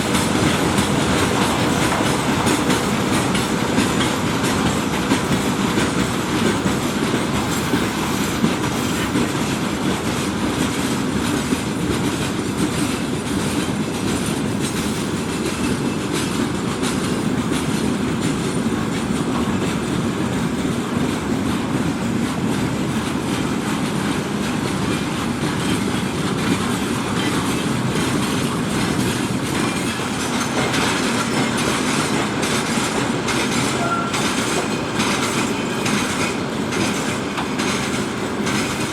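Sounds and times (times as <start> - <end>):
freight train rolling past: 0.0 - 38.9
wheels clicking over rail joints: 0.0 - 38.9.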